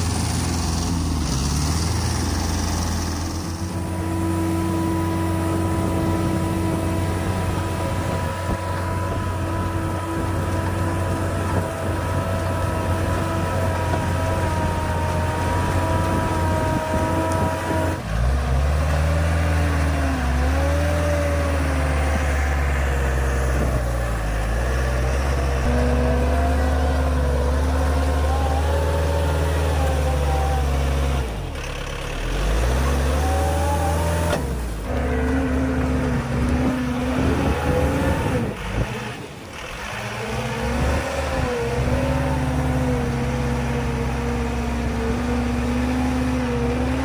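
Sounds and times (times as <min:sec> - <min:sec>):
deeper engine note varying pitch: 0:00.0 - 0:39.1
diesel engine running: 0:00.0 - 0:47.0.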